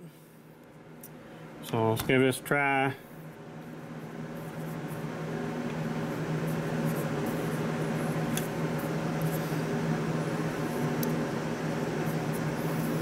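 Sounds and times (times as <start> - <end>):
shop machinery humming: 0.0 - 13.0.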